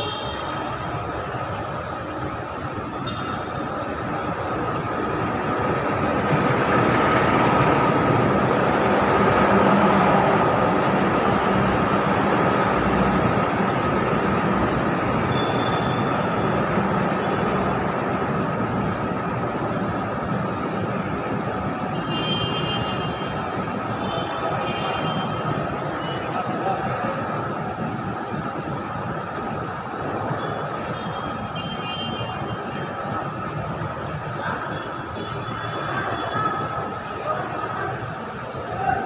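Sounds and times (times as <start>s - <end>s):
train coaches rolling on rails: 0.0s - 39.0s.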